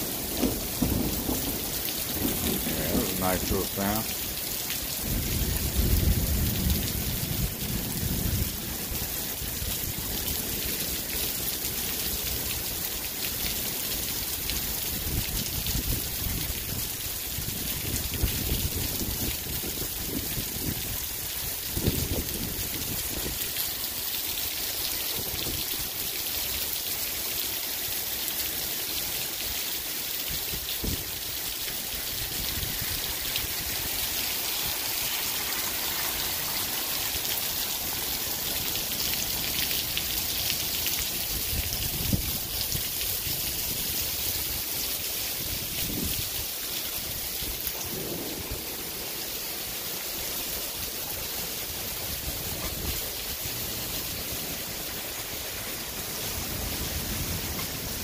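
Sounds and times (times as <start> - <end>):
heavy rain hissing: 0.0 - 58.0
water dripping off roof eave: 0.0 - 58.0.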